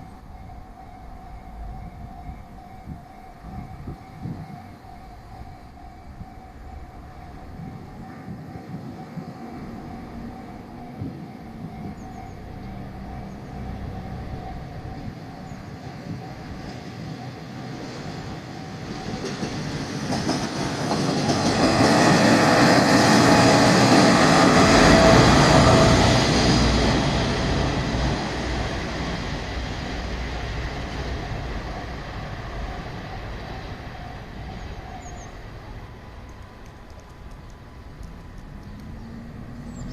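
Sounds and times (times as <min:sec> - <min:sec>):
diesel railcar passing: 0:00.0 - 0:39.9.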